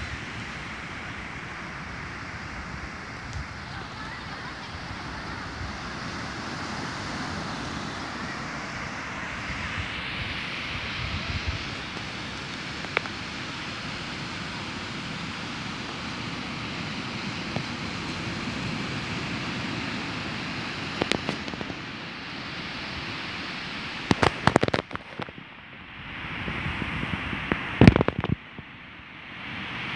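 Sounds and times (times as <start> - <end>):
wind buffeting microphone: 0.0 - 23.0, 23.9 - 28.8
waves breaking on beach: 0.0 - 29.9.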